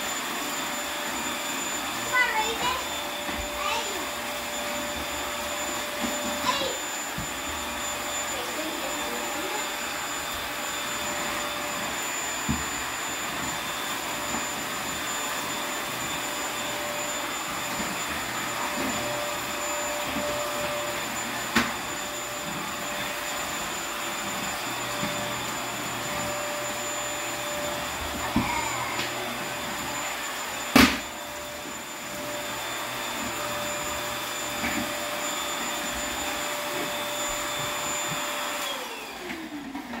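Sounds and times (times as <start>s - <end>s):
stick vacuum running: 0.0s - 40.0s
vacuum motor spinning down: 0.0s - 40.0s.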